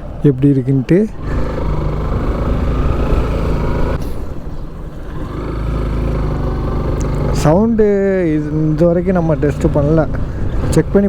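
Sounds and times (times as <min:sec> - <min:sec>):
motorcycle engine running: 0:01.2 - 0:11.0.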